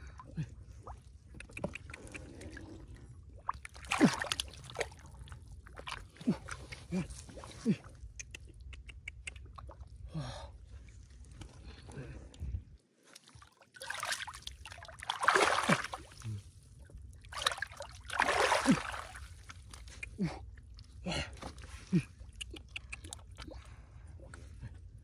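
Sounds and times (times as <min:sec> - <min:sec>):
water splashing and sloshing: 0:00.0 - 0:08.0, 0:10.7 - 0:24.8.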